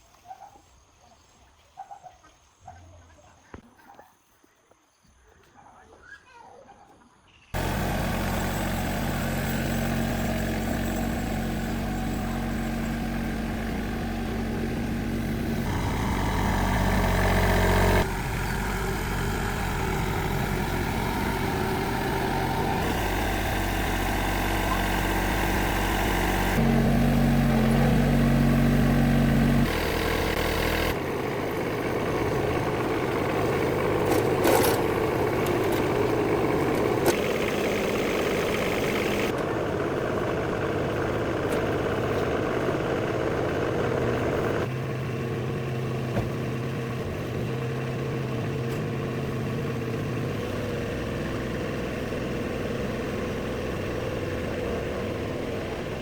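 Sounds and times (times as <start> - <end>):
engine running: 7.6 - 56.0.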